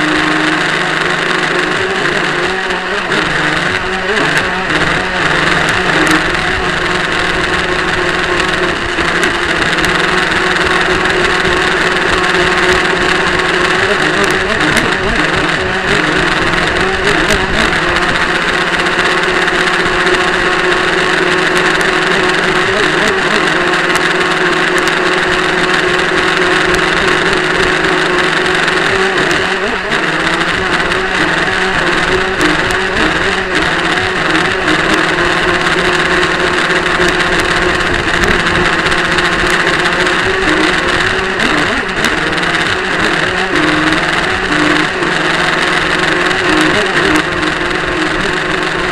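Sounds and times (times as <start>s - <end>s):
model boat motor running: 0.0s - 48.9s.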